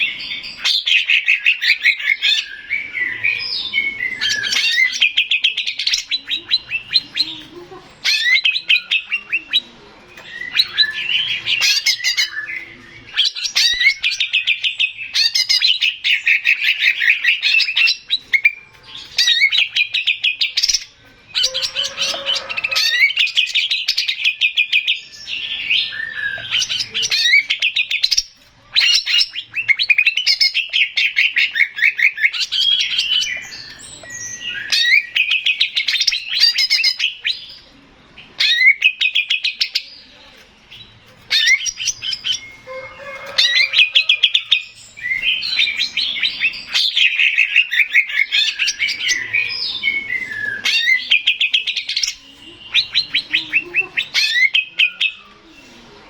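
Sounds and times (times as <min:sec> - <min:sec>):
bird singing chattering and whistling: 0:00.0 - 0:55.8.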